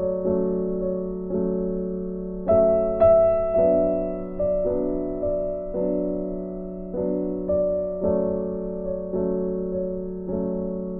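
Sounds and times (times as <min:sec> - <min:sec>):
soft piano chords: 0:00.0 - 0:10.9.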